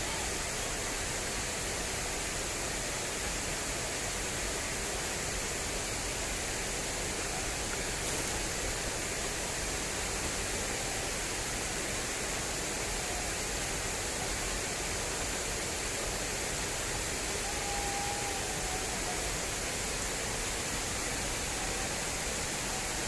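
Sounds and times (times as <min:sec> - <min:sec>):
water rushing along a channel: 0:00.0 - 0:23.0.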